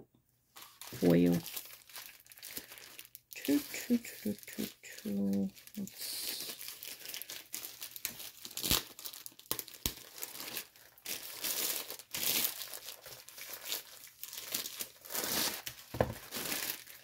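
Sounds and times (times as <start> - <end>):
packaging crinkling: 0.5 - 17.0.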